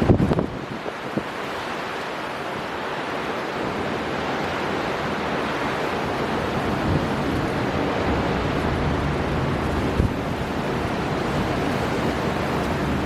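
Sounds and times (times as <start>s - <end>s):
wind buffeting microphone: 0.0s - 1.8s, 2.9s - 13.0s
sea surf crashing: 0.0s - 13.0s
storm wind blowing: 0.0s - 13.0s.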